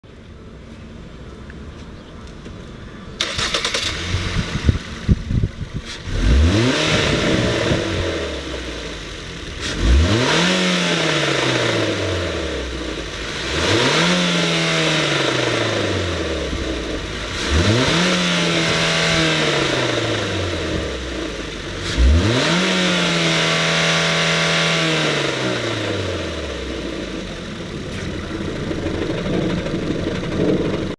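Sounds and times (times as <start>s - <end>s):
van engine starting and revving: 3.2s - 30.9s.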